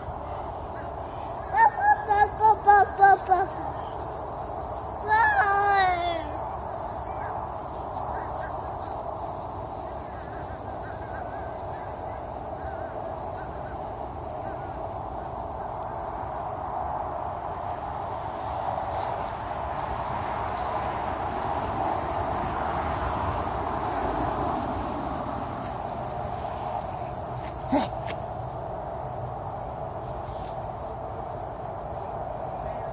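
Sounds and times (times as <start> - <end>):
background hum: 0.0 - 32.9
insects chirping: 0.0 - 32.9.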